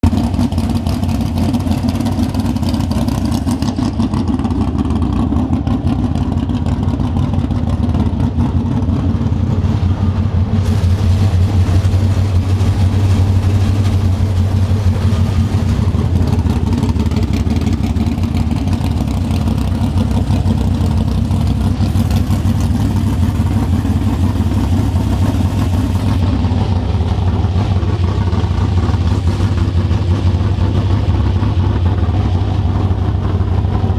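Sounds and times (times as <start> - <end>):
loud car engine idling: 0.0 - 33.9.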